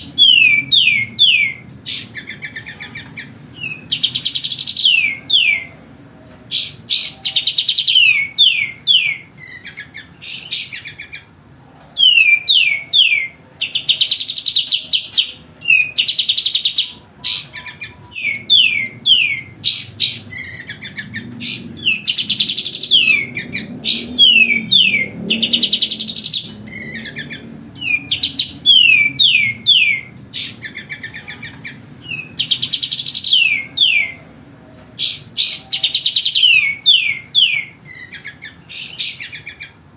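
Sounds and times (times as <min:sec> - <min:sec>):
bulbul singing chirps and trills: 0:00.0 - 0:39.9.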